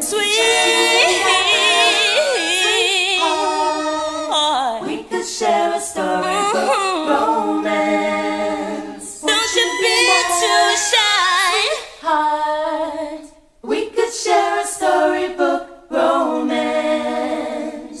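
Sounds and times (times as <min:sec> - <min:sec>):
voices singing a cappella: 0:00.0 - 0:18.0.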